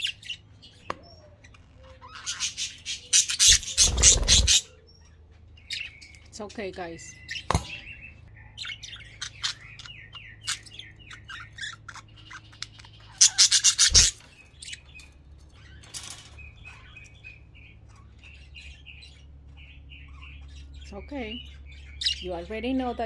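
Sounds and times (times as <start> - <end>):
budgerigars chirping and chattering: 0.0 - 23.0.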